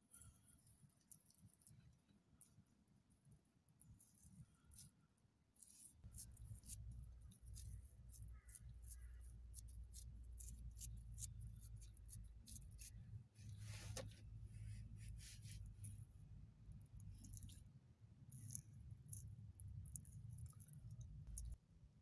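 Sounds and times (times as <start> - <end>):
low steady hum: 3.8 - 22.0.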